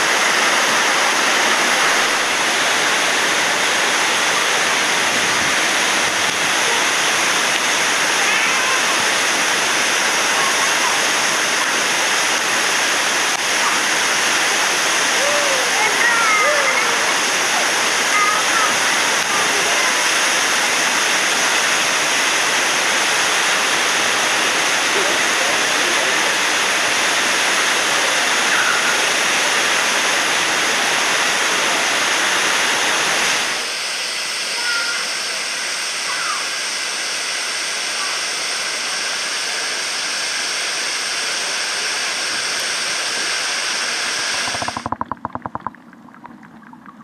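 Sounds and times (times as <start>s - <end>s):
waterfall rushing: 0.0s - 36.5s, 37.3s - 45.7s.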